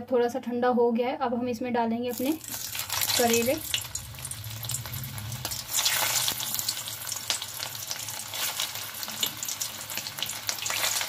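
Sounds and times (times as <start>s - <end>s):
food sizzling in hot oil: 2.1s - 11.0s.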